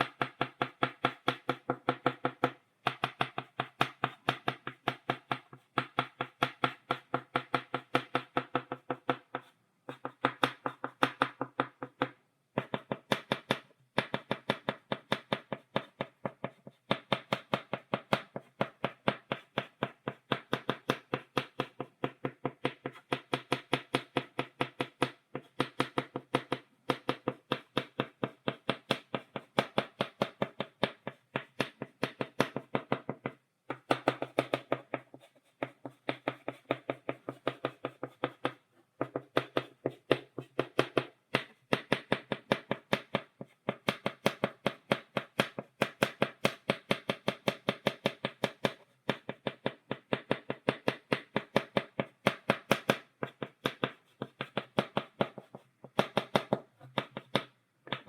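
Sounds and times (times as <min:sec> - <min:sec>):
chalk tapping on blackboard: 0:00.0 - 0:58.0.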